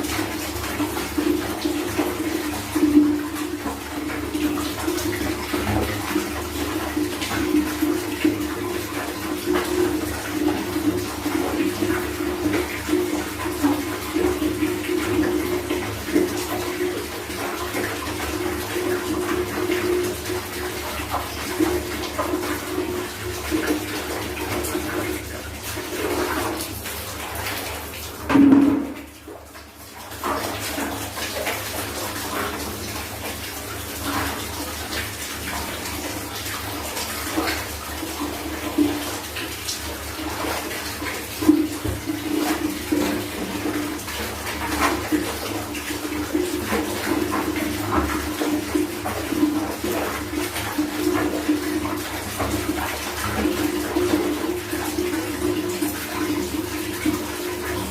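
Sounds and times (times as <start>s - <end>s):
water splashing: 0.0s - 57.9s.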